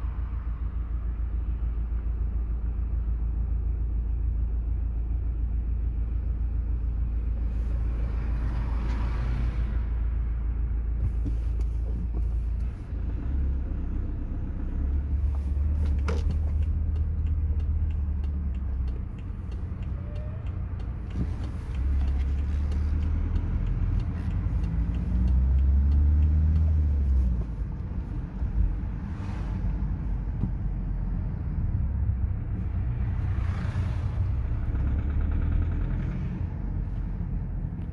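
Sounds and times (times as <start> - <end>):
car engine droning rumble: 0.0 - 37.9.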